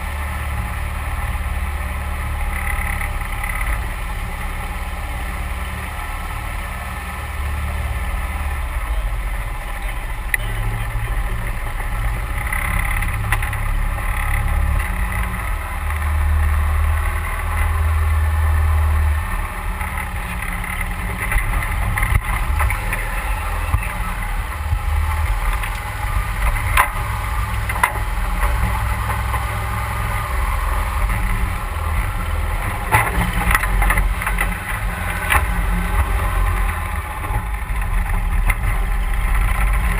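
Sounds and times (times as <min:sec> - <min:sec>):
boat motor droning: 0:00.0 - 0:39.9.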